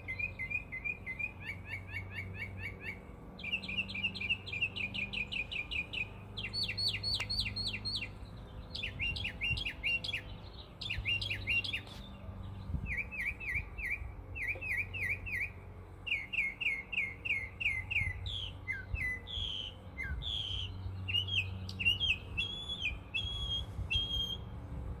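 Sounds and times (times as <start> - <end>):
mockingbird singing: 0.0 - 24.5.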